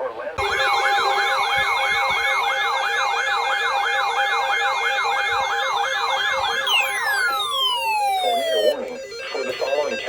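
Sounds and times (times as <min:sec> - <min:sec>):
electronic siren yelping: 0:00.4 - 0:10.0
siren falling glide: 0:00.4 - 0:10.0.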